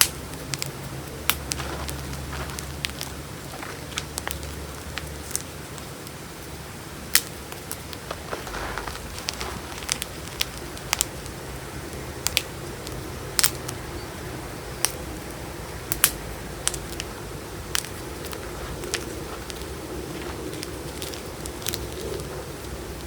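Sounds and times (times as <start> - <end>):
faint background noise: 0.0 - 23.0.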